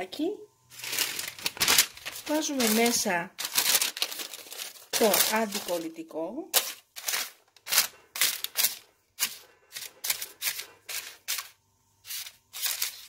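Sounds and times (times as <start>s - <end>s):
baking paper crinkling: 0.7s - 13.0s.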